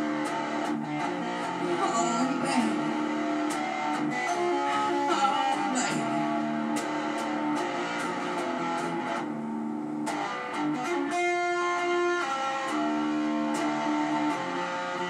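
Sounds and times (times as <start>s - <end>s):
solo guitar playing: 0.0s - 15.0s.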